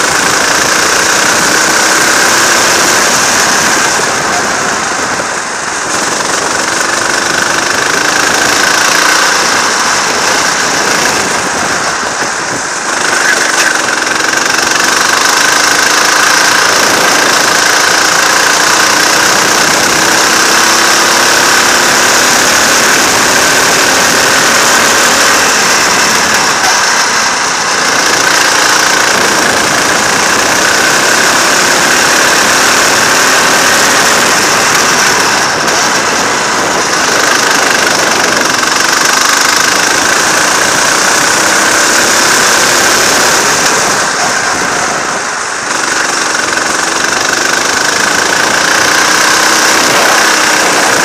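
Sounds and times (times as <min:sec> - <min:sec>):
go-kart engine revving: 0:00.0 - 0:51.0.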